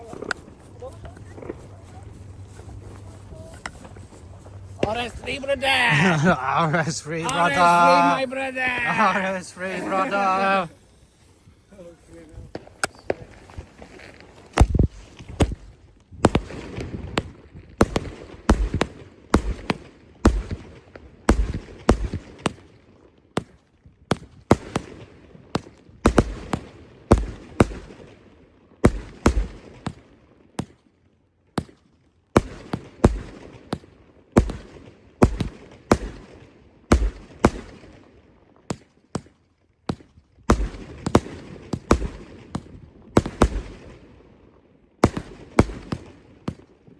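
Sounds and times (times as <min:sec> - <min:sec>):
fireworks bangs: 0:00.0 - 0:13.9, 0:14.5 - 0:22.6, 0:24.1 - 0:28.2, 0:32.4 - 0:37.9, 0:39.9 - 0:44.2, 0:45.0 - 0:46.7.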